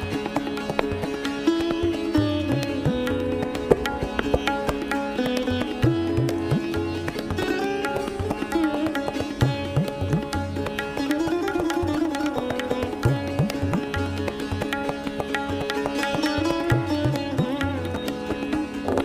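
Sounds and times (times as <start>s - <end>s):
sitar melody: 0.0s - 19.0s
tabla strokes: 0.0s - 19.0s.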